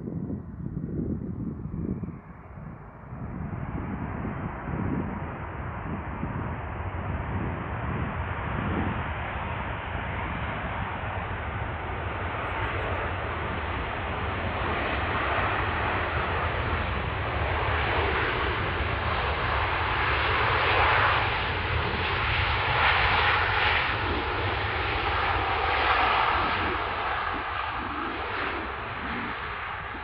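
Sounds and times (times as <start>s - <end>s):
jet engines roaring: 3.2s - 30.0s.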